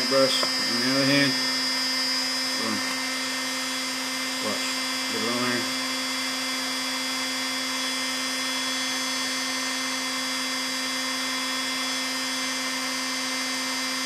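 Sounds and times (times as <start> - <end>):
heat gun motor hum: 0.0 - 14.0.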